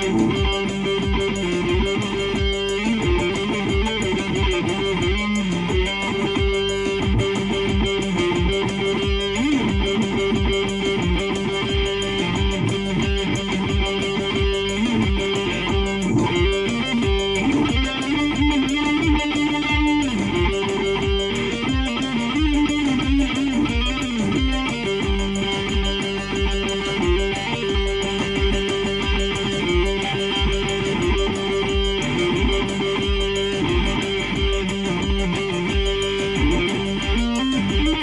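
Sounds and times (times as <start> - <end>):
electric guitar bending notes: 0.0 - 38.0
steady low beat: 0.0 - 38.0.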